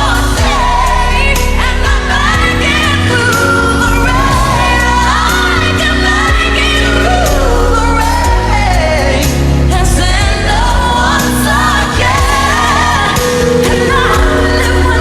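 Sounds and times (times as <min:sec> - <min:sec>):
band accompaniment: 0:00.0 - 0:15.0
woman singing a pop ballad: 0:00.0 - 0:15.0.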